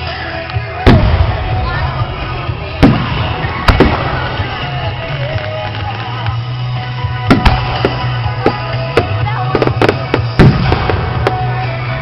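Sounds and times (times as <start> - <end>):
background music: 0.0 - 12.0
fireworks bangs: 0.8 - 12.0.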